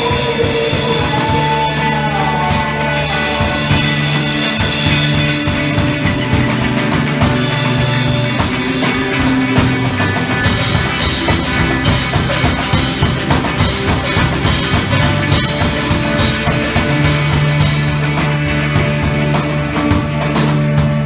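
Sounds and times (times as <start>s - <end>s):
drums and cymbals: 0.0s - 21.0s
live rock band playing: 0.0s - 21.0s.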